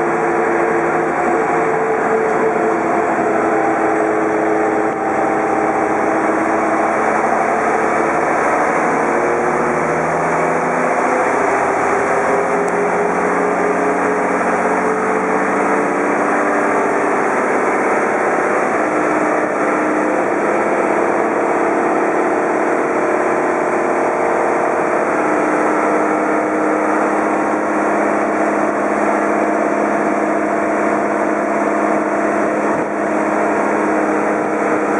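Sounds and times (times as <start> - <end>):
bus engine: 0.0 - 34.9
road noise: 0.0 - 34.9.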